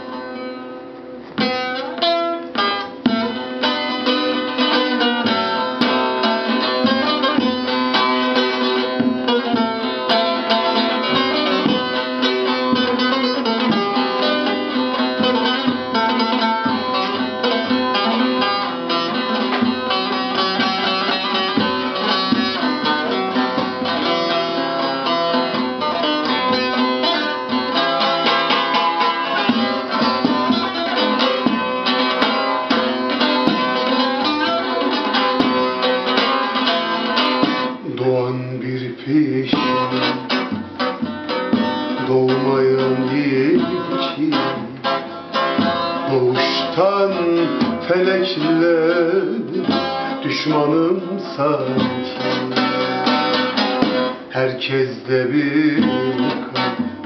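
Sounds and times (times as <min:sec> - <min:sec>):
long-necked lute melody: 0:00.0 - 0:57.0.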